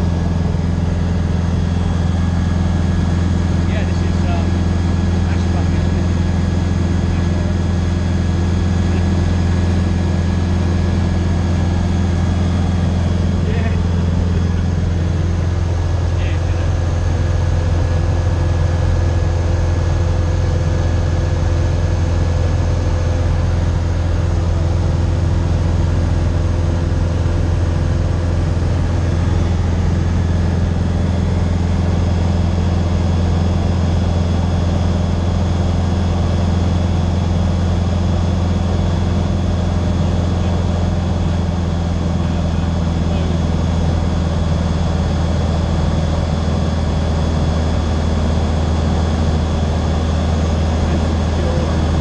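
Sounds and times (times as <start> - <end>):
light aircraft engine droning: 0.0 - 52.0.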